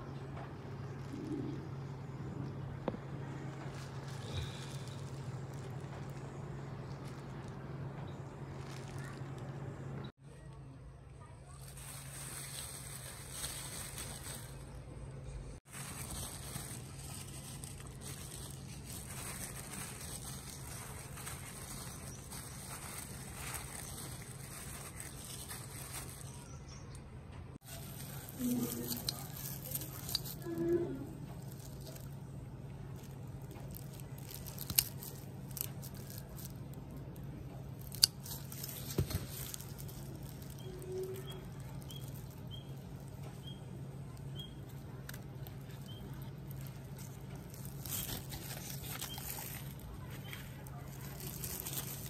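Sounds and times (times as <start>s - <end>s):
gloved hand stirring potting mix: 0.4s - 10.2s, 11.5s - 26.9s, 27.6s - 52.0s.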